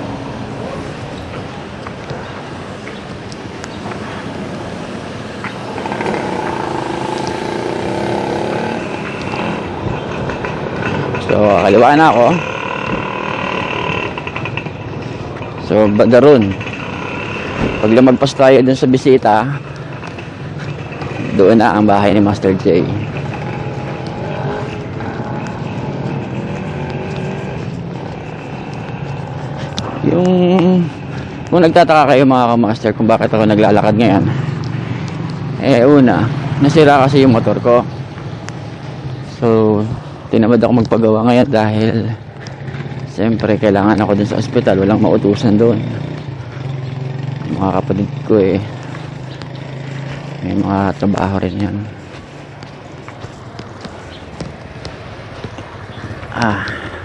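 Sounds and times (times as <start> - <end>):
road noise: 0.0 - 57.0
vehicle engine passing: 0.0 - 57.0.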